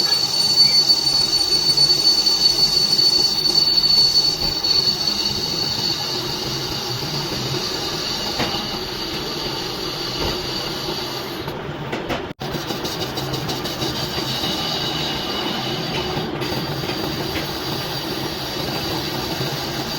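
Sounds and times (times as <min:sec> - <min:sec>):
lathe tool squealing on metal: 0:00.0 - 0:11.5, 0:12.4 - 0:19.9.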